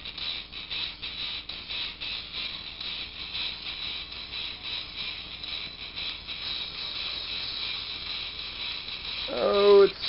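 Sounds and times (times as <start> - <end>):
tinny electronic toy music: 0.0 - 10.0.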